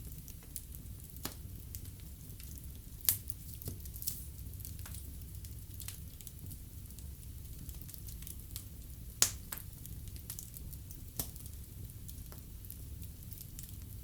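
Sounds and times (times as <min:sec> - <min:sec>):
fire crackles and pops: 0:00.0 - 0:14.0
fire rumbling: 0:00.0 - 0:14.0.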